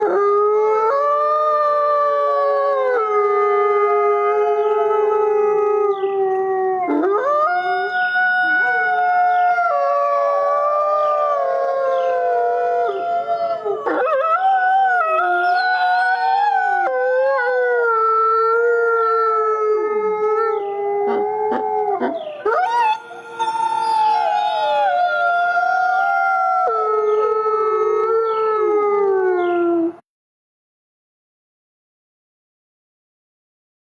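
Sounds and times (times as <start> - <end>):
wolves howling: 0.0 - 30.0.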